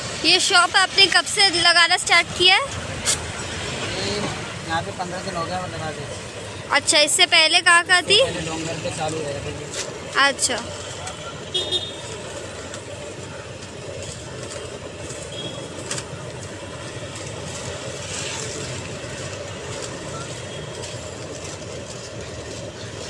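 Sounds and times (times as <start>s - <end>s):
street traffic din: 0.0s - 23.0s.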